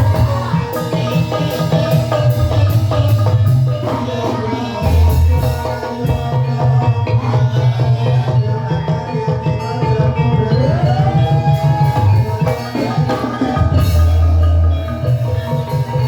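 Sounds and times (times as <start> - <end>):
gamelan ensemble with drums: 0.0 - 16.0.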